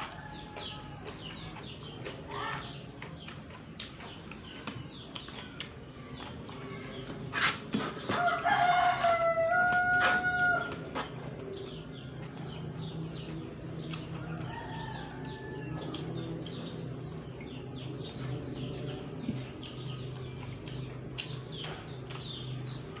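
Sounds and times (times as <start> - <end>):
chickens and birds calling: 0.0 - 23.0.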